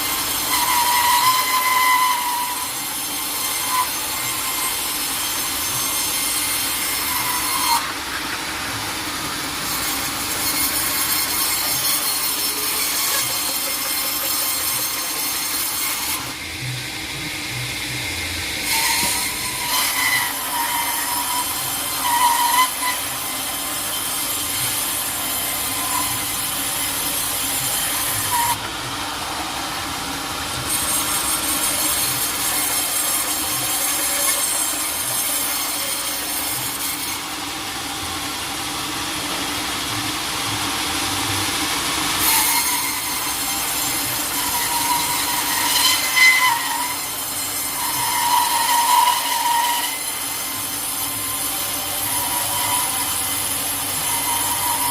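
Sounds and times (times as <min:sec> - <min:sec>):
saw blade cutting log: 0:00.0 - 0:38.5, 0:39.3 - 0:54.9.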